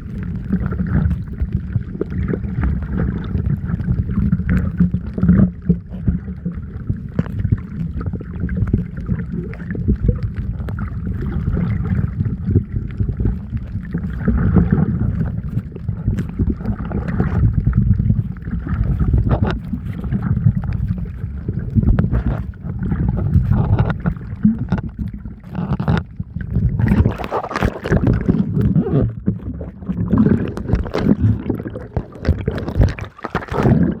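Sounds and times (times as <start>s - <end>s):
water sloshing and splashing: 0.0s - 34.0s.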